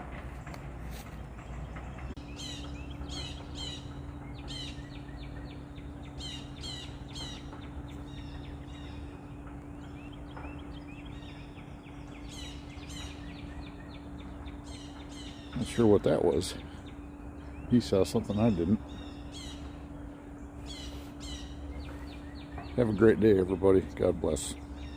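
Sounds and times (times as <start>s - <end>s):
outdoor background noise: 0.0s - 24.9s
steady low hum: 0.0s - 24.9s
bird chirping: 1.2s - 24.9s.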